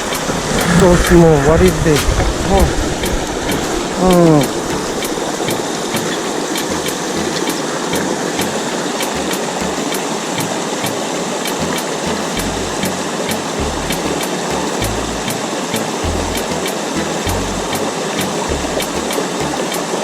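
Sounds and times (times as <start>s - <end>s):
rushing creek water: 0.0s - 20.0s.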